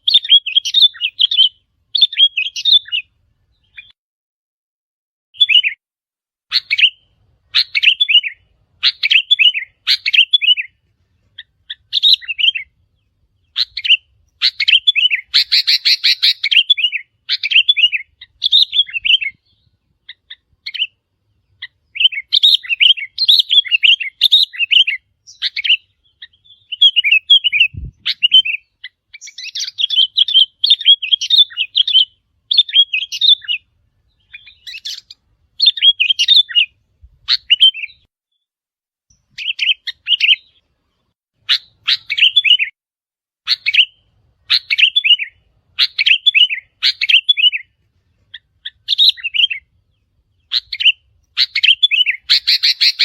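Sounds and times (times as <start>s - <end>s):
bird chirping calls: 0.0s - 4.0s, 5.4s - 5.8s, 6.5s - 38.1s, 39.1s - 42.8s, 43.5s - 53.0s.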